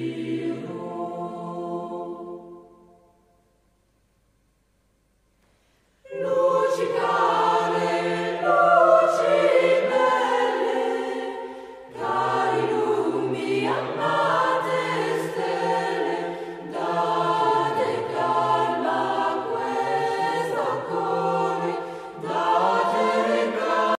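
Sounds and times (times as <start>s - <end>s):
choir singing sustained chords: 0.0s - 3.8s, 6.0s - 24.0s.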